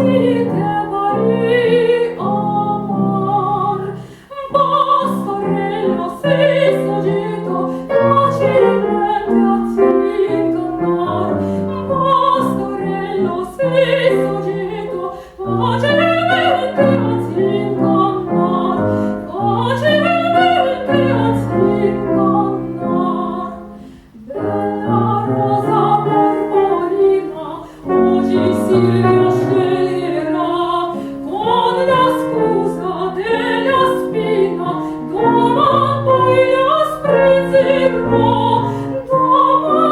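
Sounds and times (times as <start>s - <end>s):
grand piano: 0.0s - 39.9s
woman singing opera: 0.0s - 39.9s.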